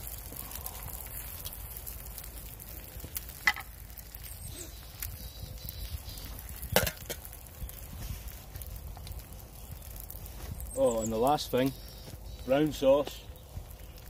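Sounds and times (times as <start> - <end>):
eggs sizzling in a pan: 0.0 - 14.0.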